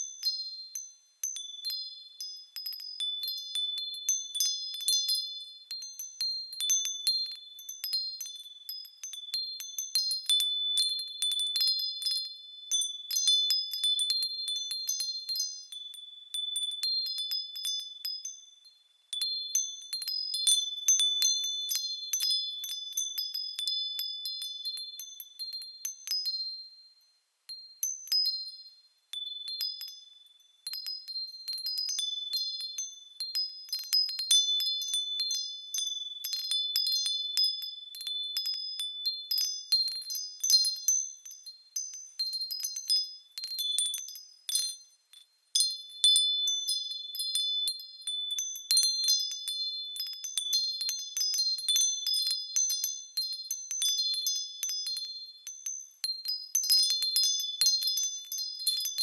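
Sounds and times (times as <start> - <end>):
small metal bells tinkling: 0.0 - 59.0.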